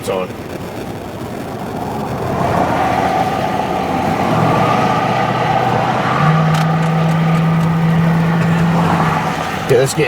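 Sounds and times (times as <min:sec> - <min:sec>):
road noise: 0:00.0 - 0:10.0
vehicle engine: 0:00.0 - 0:10.0.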